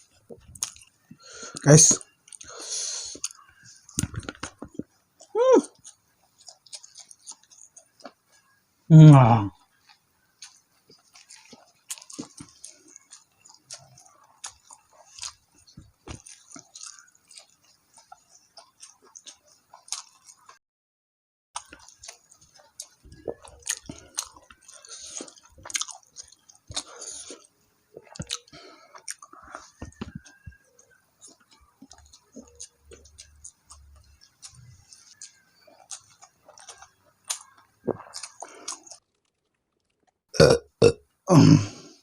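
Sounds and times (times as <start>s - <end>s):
person chewing food: 0.0s - 8.6s, 9.6s - 20.6s, 21.6s - 41.0s.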